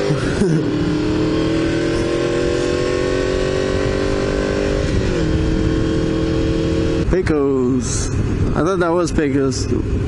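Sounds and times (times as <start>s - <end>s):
wind rumble on microphone: 0.8s - 10.0s.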